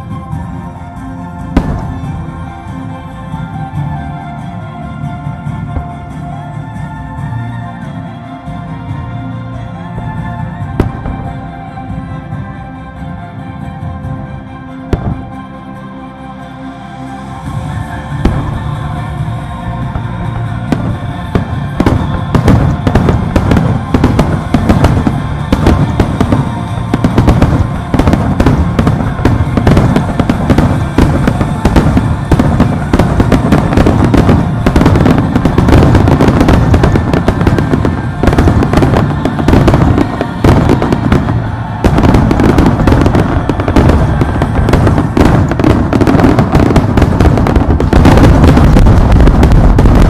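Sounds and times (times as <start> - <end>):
fireworks bursting and crackling: 0.0 - 12.6, 17.4 - 50.0
music playing: 0.0 - 50.0.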